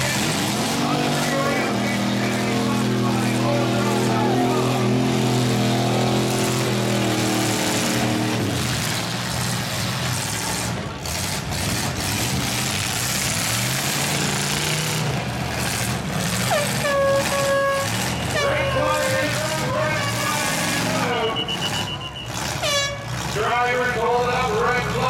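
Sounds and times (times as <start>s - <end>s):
truck engines revving: 0.0s - 25.0s.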